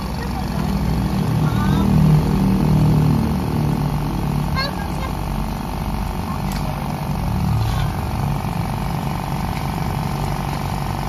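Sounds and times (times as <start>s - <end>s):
electric air compressor running: 0.0s - 11.0s.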